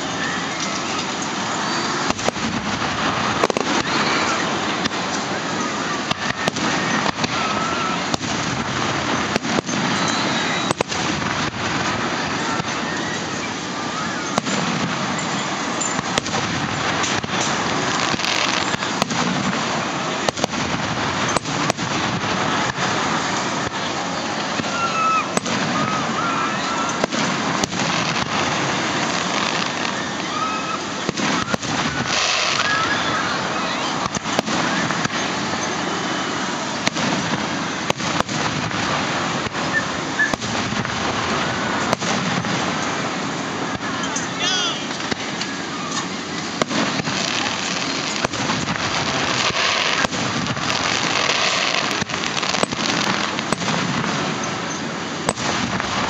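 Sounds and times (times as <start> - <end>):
crowd murmur: 0.0 - 56.0
fireworks bangs and cracks: 0.0 - 56.0.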